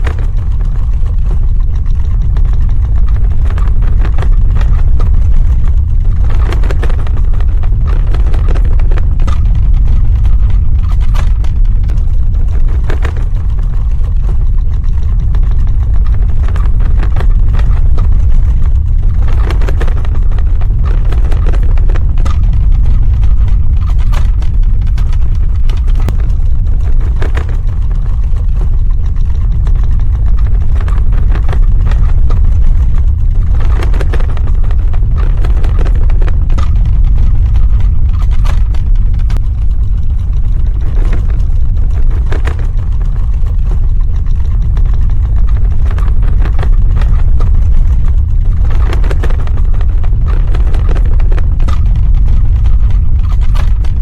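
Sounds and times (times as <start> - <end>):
crackles and cracks: 0.0 - 54.0
deep earthquake rumble: 0.0 - 54.0.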